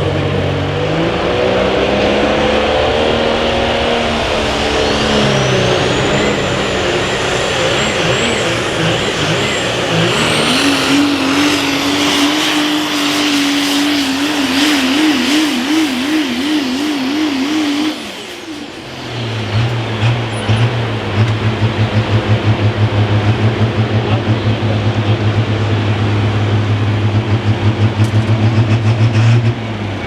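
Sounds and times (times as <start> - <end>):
diesel truck engine at full throttle: 0.0 - 30.0.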